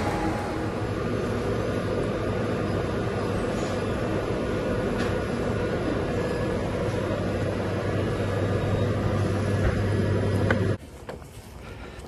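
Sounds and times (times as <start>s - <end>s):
low hum: 0.0s - 10.8s
fan and machinery drone: 0.0s - 12.0s.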